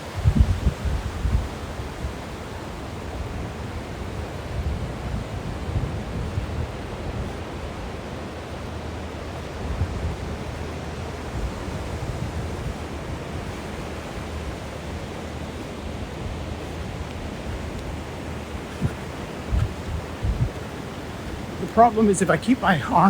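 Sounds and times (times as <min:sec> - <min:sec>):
wind buffeting microphone: 0:00.0 - 0:23.0
ocean surf rushing: 0:00.8 - 0:23.0.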